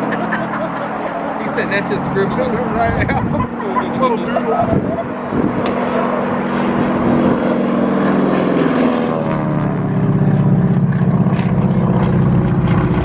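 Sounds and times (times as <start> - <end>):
propeller airplane engine drone: 0.0 - 13.0.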